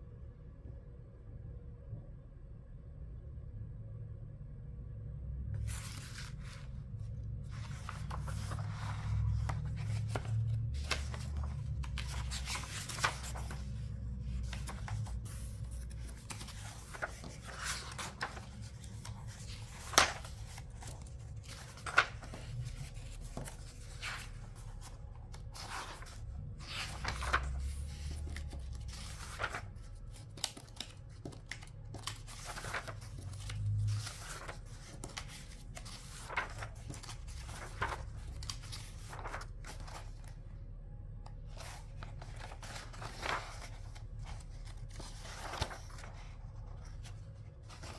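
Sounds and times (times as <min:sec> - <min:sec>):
paper pages rustling: 0:05.6 - 0:40.4, 0:41.2 - 0:47.9.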